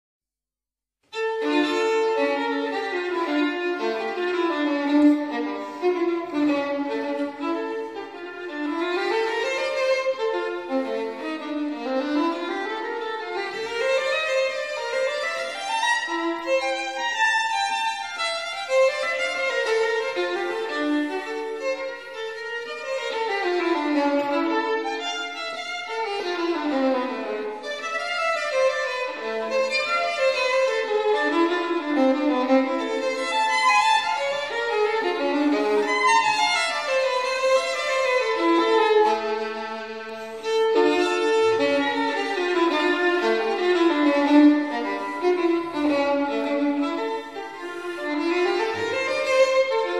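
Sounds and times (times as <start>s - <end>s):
violin music: 1.0s - 49.9s.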